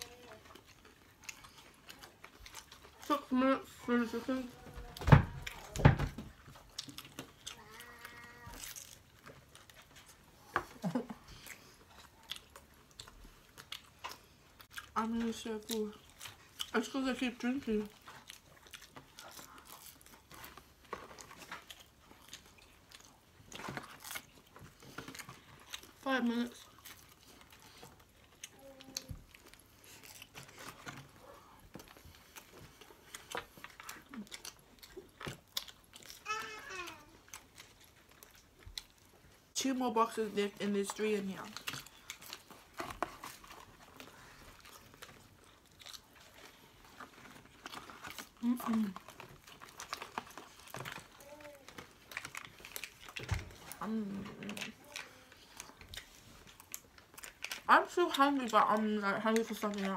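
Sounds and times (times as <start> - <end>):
chewing food with wet mouth sounds: 0.0 - 59.9.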